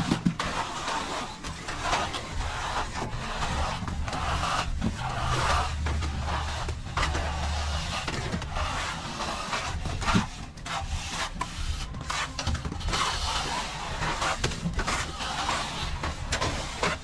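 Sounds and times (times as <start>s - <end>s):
trowel scraping a wall: 0.0s - 17.0s.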